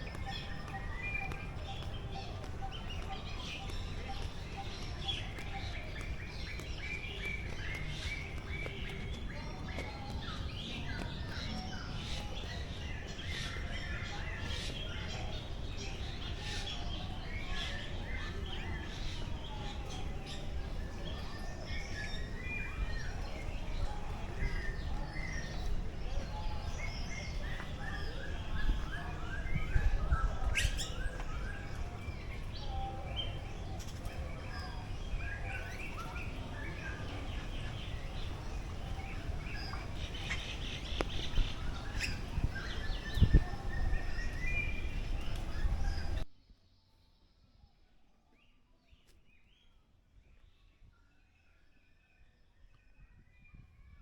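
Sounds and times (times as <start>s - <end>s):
birds chirping and calling: 0.0s - 46.2s.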